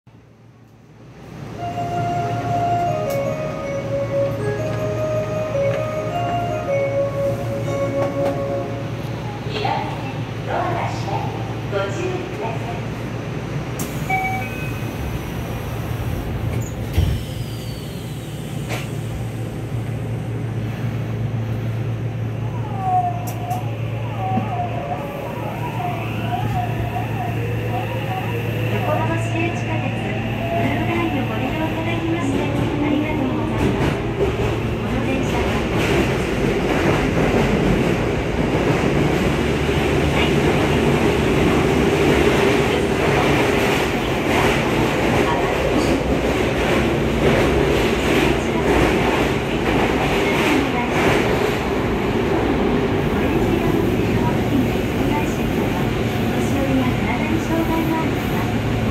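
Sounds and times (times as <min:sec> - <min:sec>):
train equipment hum: 0:00.1 - 0:58.9.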